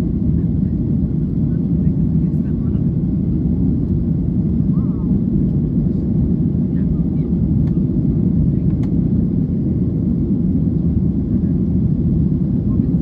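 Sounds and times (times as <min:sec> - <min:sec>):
airliner engine rumble in cabin: 0:00.0 - 0:13.0.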